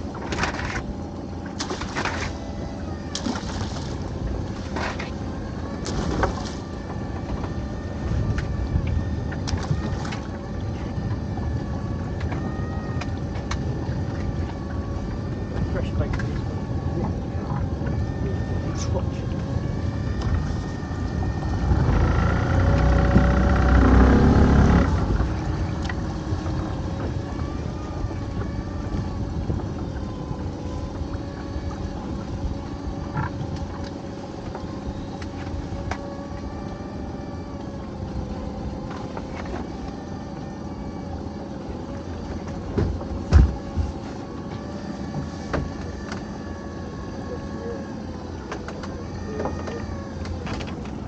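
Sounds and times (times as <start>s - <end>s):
outboard motor running: 0.0s - 51.0s.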